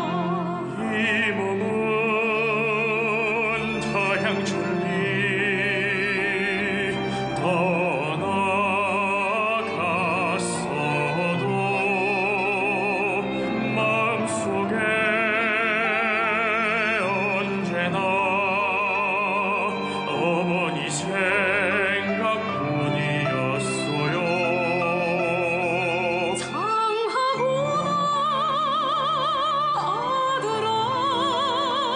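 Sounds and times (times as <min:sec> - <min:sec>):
operatic slow melody with vibrato: 0:00.0 - 0:31.9
sustained accompaniment: 0:00.0 - 0:31.9.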